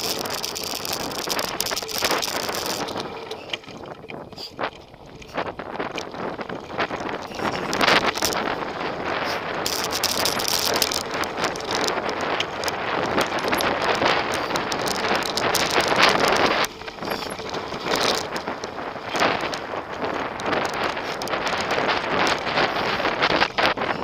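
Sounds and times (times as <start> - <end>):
bike clattering over bumps: 0.0 - 24.0
bike tyres crunching on gravel: 0.0 - 24.0
wind buffeting microphone: 0.0 - 24.0.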